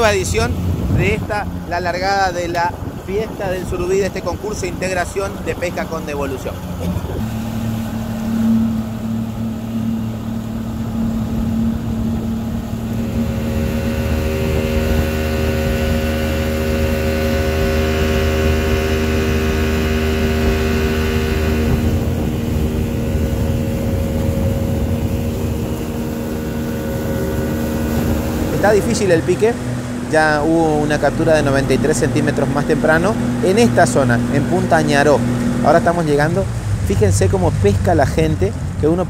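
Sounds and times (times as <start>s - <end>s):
motorboat engine drone: 0.0s - 39.0s
water rushing: 0.0s - 39.0s
wind: 0.0s - 39.0s.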